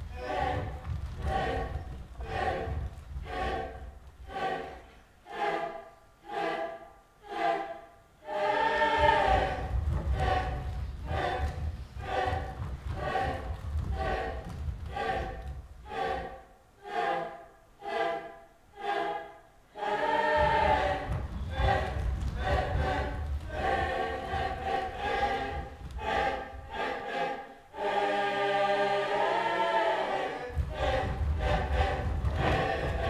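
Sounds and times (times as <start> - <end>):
group of voices singing: 0.0 - 33.0.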